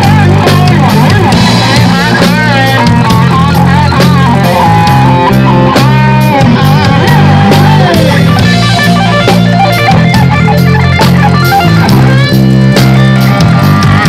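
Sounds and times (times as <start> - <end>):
electric guitar solo: 0.0 - 14.0
rock band playing: 0.0 - 14.0.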